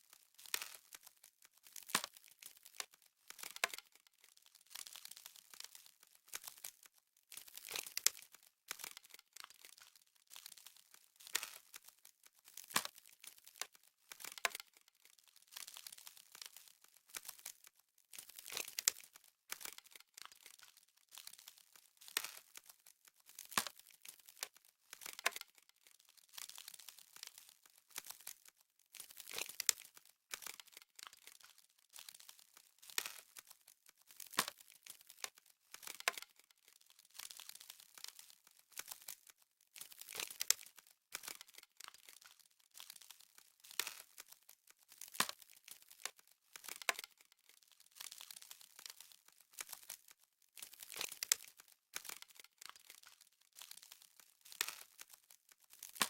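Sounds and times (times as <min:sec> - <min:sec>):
frost crackling: 0:00.0 - 0:56.0.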